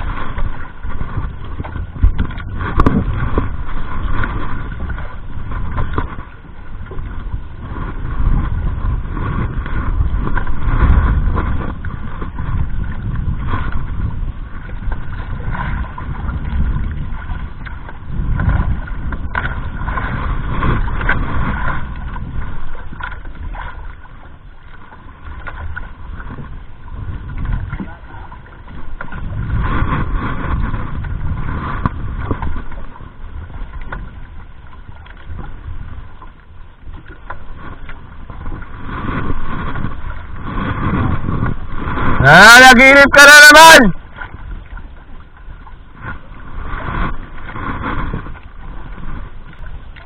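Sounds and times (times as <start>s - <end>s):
water sloshing against boat hull: 0.0s - 42.2s, 43.1s - 50.0s
wind buffeting microphone: 0.0s - 50.0s.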